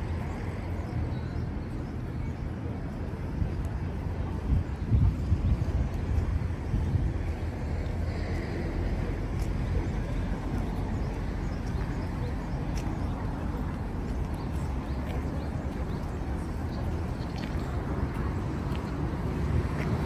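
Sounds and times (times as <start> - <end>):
wind buffeting microphone: 2.5 - 20.0.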